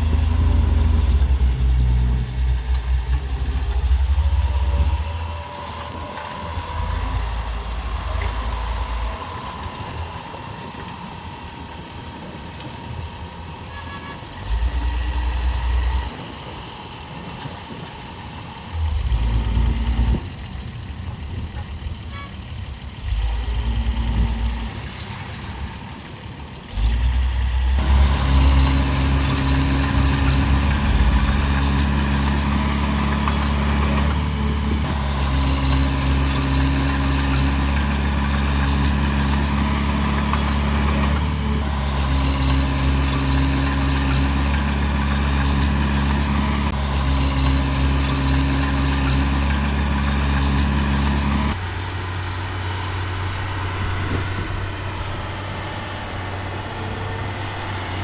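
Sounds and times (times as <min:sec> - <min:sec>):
heavy diesel engine revving: 0:00.0 - 0:58.0.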